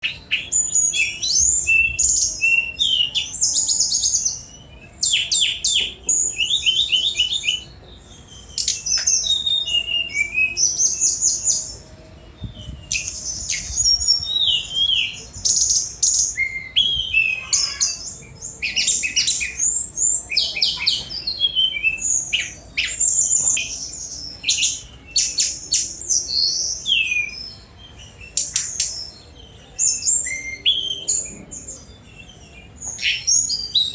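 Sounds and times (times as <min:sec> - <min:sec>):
bird singing whistles and trills: 0:00.0 - 0:33.9.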